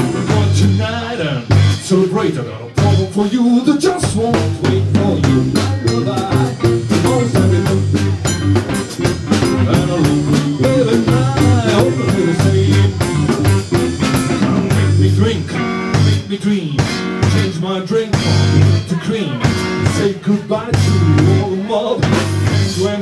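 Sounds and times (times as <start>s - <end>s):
blues-rock band playing: 0.0s - 23.0s
steady drum beat: 0.0s - 23.0s.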